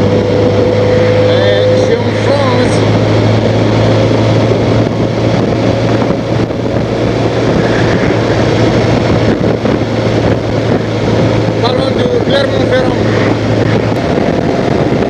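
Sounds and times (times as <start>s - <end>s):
motorcycle engine droning: 0.0s - 15.0s
rushing noise: 0.0s - 15.0s.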